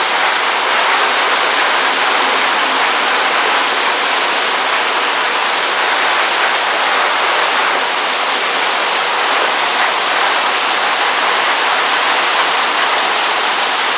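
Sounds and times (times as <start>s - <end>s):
torrential rain pouring: 0.0s - 13.9s.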